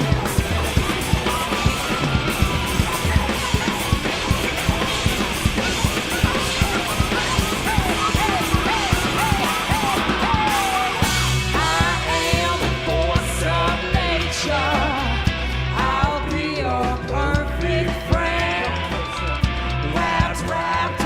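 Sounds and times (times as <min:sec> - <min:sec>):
live rock music: 0:00.0 - 0:21.0
person singing: 0:00.0 - 0:21.0.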